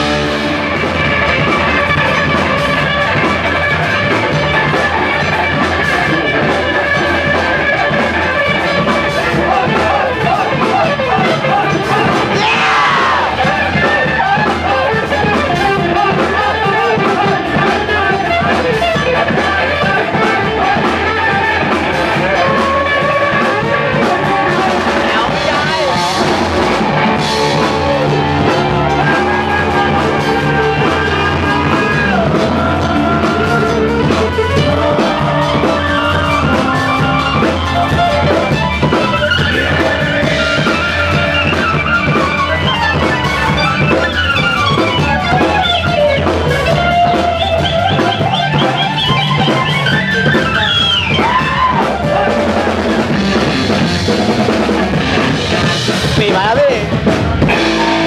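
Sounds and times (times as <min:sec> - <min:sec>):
drum kit: 0:00.0 - 0:58.0
electric guitar lead: 0:00.0 - 0:58.0
fretless electric bass: 0:00.0 - 0:58.0.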